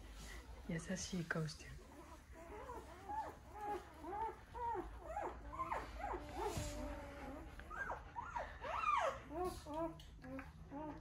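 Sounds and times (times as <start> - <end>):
puppies whimpering: 1.9 - 11.0.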